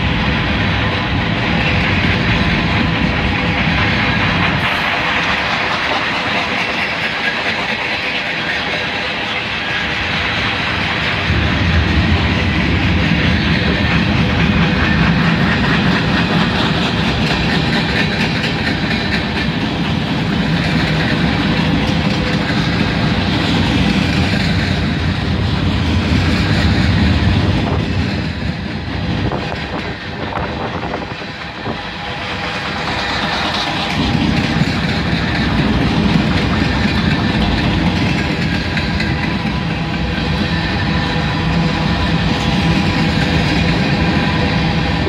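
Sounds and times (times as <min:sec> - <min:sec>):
freight train rumbling past: 0:00.0 - 0:45.0
wheels clattering over rails: 0:00.0 - 0:45.0.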